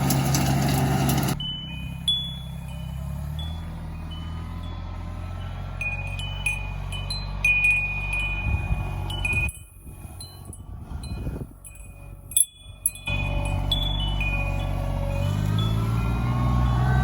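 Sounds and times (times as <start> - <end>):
tractor engine hum: 0.0 - 17.0.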